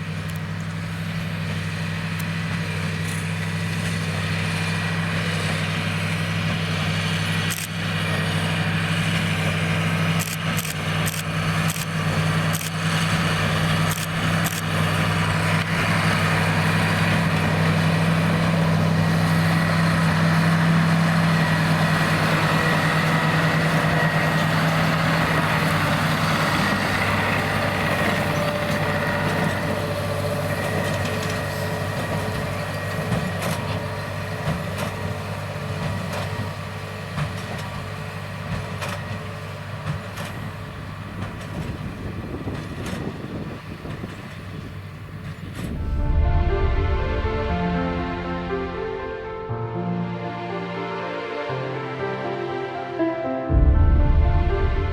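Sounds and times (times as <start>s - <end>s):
diesel tractor engine running: 0.0s - 54.9s.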